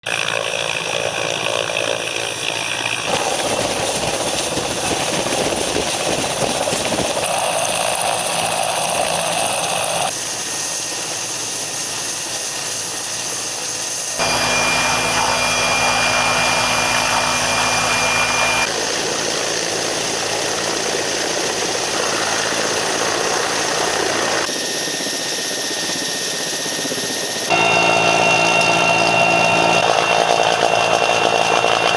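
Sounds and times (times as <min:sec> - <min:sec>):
helicopter engines and rotor: 0:00.0 - 0:31.9.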